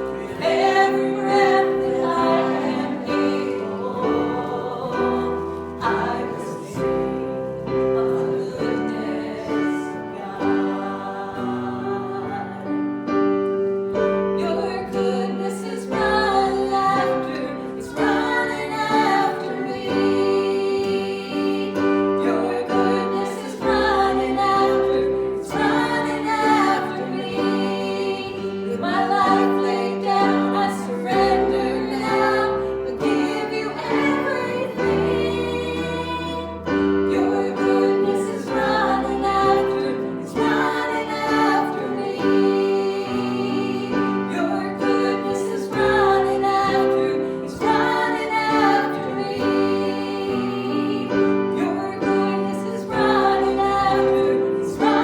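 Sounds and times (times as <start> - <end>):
worship song singing: 0.0 - 55.0.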